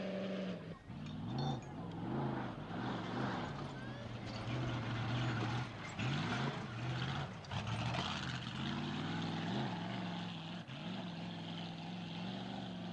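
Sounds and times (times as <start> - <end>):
truck engine revving: 0.0 - 12.9.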